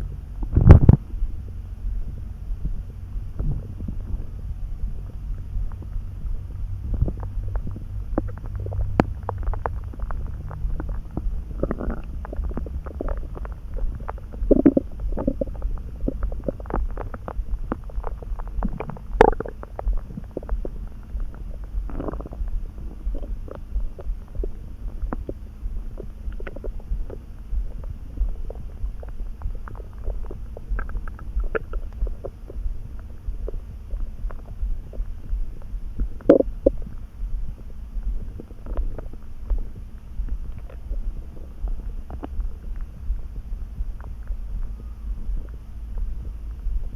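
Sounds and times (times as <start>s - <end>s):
stomach rumbling and gurgling: 0.0s - 46.9s.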